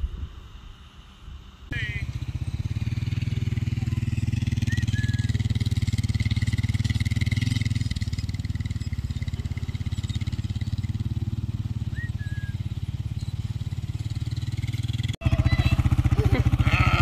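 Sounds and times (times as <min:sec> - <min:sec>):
atv engine running: 0:01.4 - 0:17.0.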